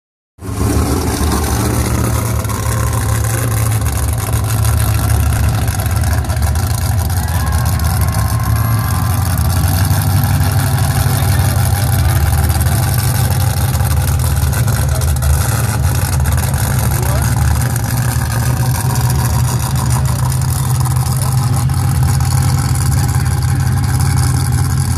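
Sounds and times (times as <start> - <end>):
truck engine deep rumble: 0.4 - 24.9.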